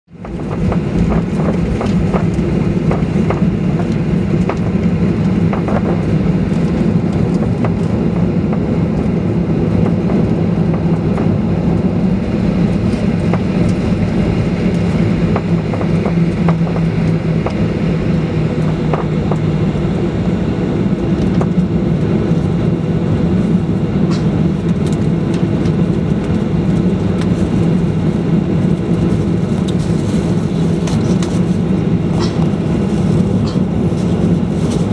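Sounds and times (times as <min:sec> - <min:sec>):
jet engines rumbling: 0:00.1 - 0:34.9.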